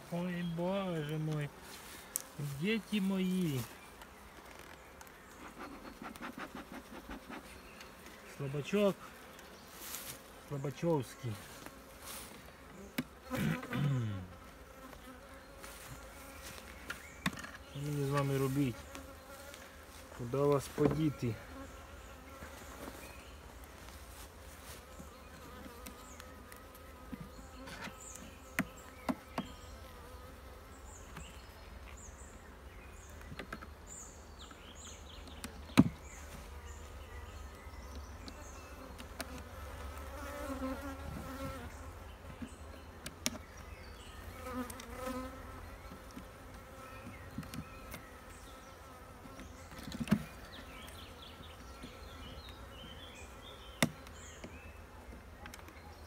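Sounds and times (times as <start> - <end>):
honeybees buzzing: 0.0 - 54.9.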